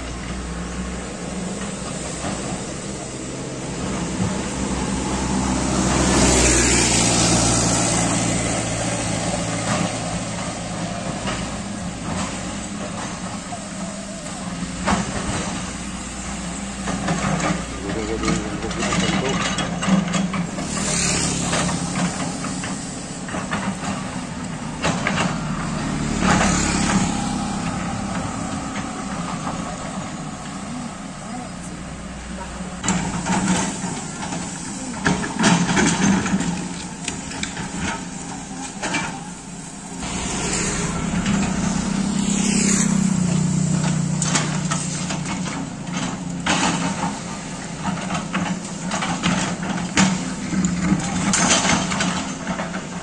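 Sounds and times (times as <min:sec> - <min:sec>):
excavator diesel engine running: 0:00.0 - 0:53.0
knocks and clanks: 0:00.0 - 0:53.0.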